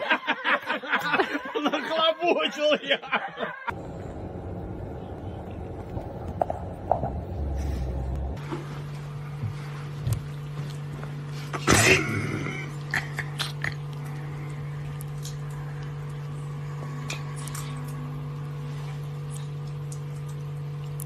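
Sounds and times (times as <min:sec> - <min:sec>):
steady low hum: 0:03.1 - 0:21.0.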